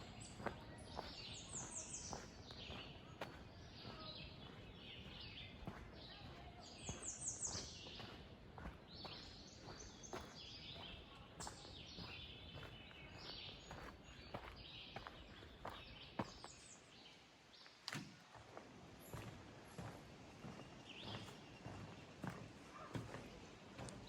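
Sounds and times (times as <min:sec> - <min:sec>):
birds singing and chirping: 0:00.0 - 0:17.2, 0:19.0 - 0:24.0
footsteps on trail: 0:00.0 - 0:24.0.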